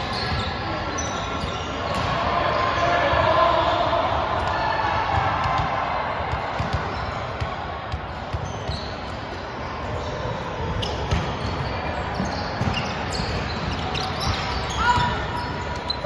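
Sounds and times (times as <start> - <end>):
sports hall noise: 0.0 - 16.0.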